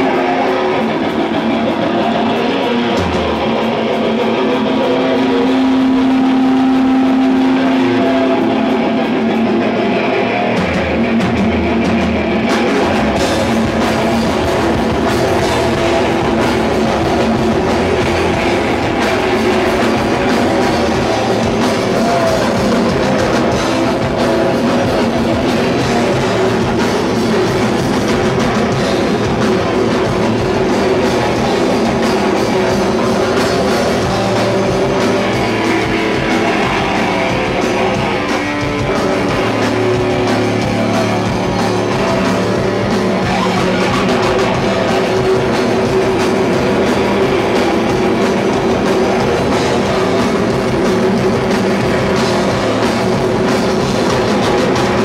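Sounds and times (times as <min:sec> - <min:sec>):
distorted electric guitar: 0:00.0 - 0:55.0
drum kit: 0:00.0 - 0:55.0.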